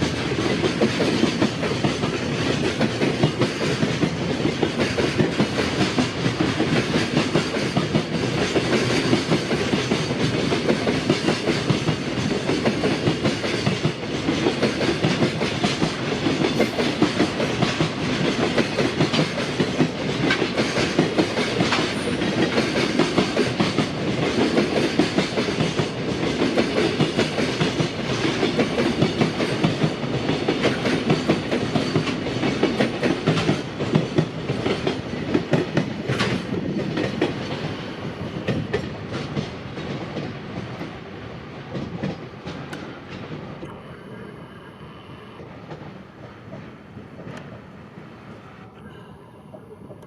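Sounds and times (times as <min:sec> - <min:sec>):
train wheels clacking over rails: 0:00.0 - 0:44.2, 0:45.4 - 0:48.4.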